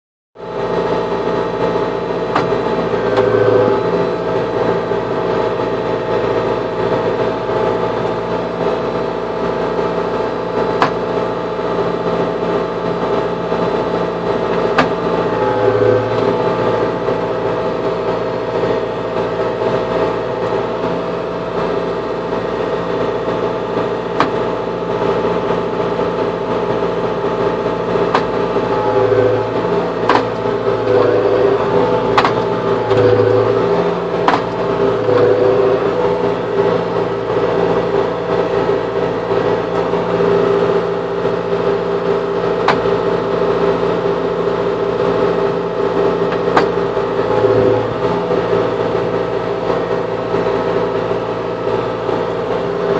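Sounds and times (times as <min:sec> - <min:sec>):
tractor engine running: 0:00.4 - 0:52.9.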